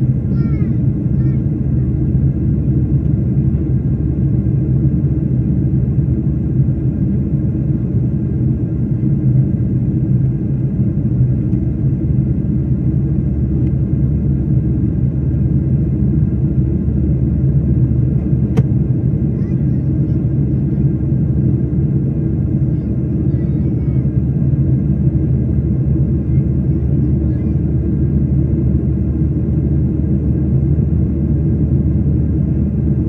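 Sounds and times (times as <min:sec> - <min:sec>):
airliner cabin engine rumble: 0:00.0 - 0:33.0.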